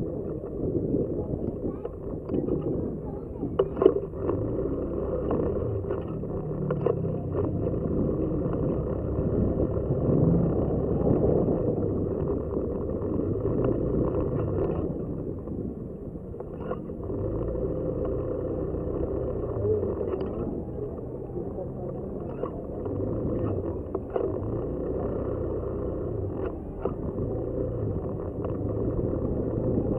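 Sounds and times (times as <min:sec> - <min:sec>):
motorcycle engine rumble: 0:00.0 - 0:29.9.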